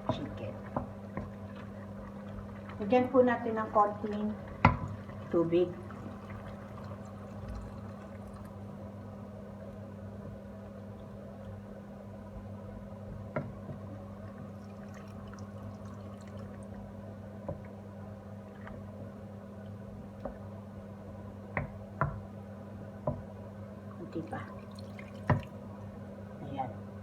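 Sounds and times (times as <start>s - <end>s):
chicken simmering in a pan: 0.0s - 26.6s.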